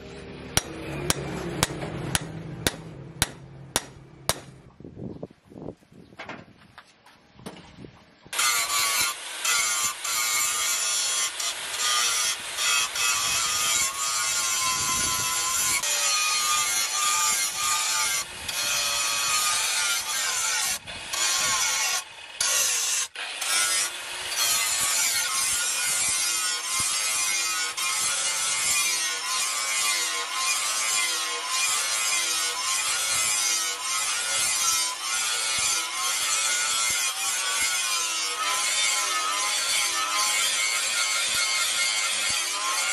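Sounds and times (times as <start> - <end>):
angle grinder grinding steel: 8.3 - 42.9.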